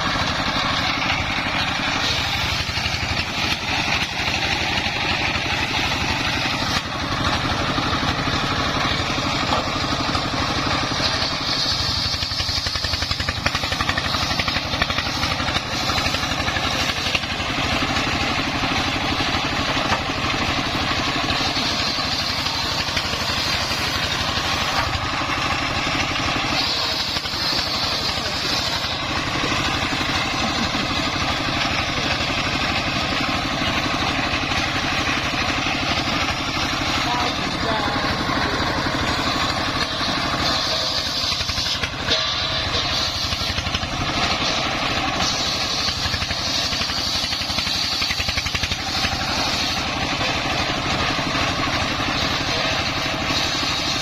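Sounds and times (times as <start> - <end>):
diesel engine throbbing: 0.0 - 54.0.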